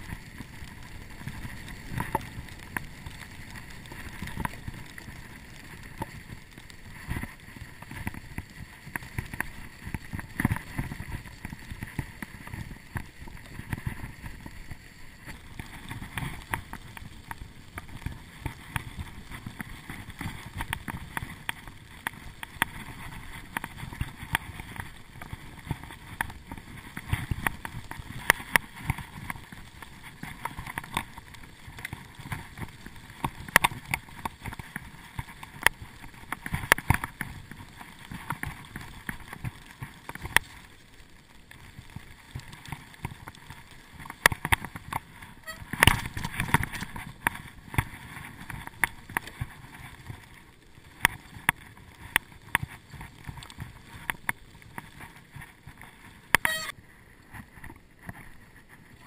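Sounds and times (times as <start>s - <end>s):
bicycle tyres rumbling on snow: 0.0s - 59.0s
bike clicking and rattling: 0.0s - 59.0s.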